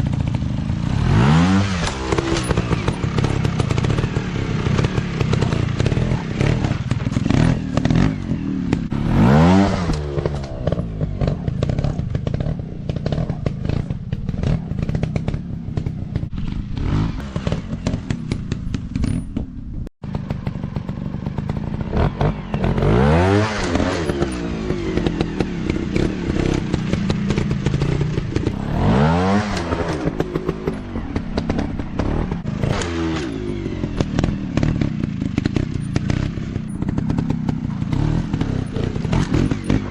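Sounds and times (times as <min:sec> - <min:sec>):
dirt bike engines revving: 0:00.0 - 0:39.9
bikes clattering over rough ground: 0:01.6 - 0:39.9.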